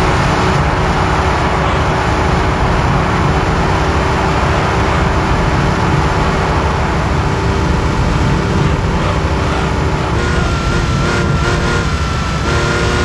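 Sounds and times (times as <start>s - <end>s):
car engine cruising: 0.0s - 13.0s
steady tone: 0.0s - 13.0s
wind and road noise: 0.0s - 13.0s.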